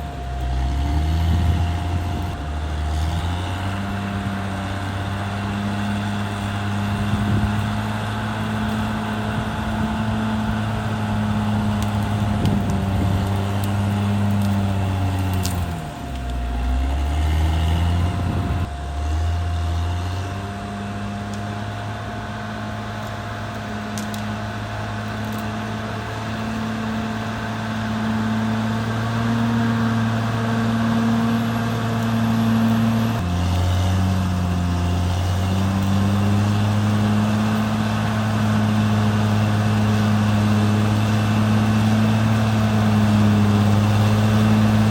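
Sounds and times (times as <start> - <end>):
bulldozer diesel engine: 0.0 - 44.9.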